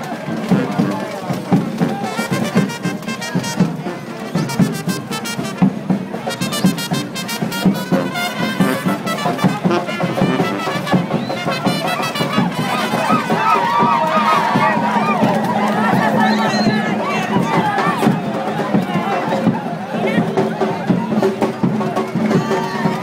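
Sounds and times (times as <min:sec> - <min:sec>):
trumpets and trombones: 0:00.0 - 0:20.5
busy drum beat: 0:00.0 - 0:23.0.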